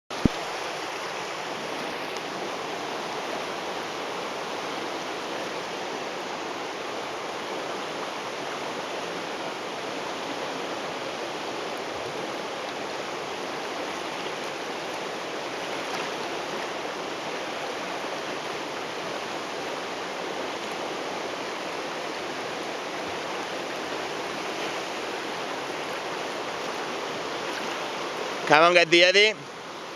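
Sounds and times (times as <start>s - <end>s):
river rapids rushing: 0.1s - 29.9s.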